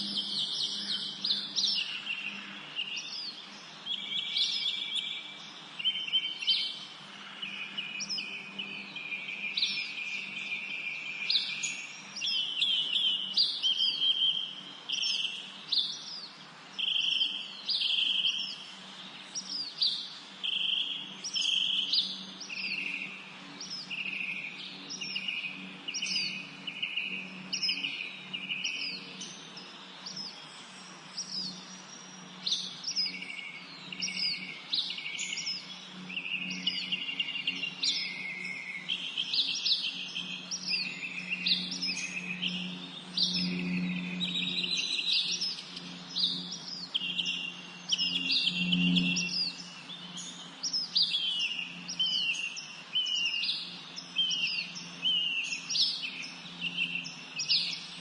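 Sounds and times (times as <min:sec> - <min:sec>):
songbirds singing: 0:00.0 - 0:58.0
steady low hum: 0:00.0 - 0:58.0.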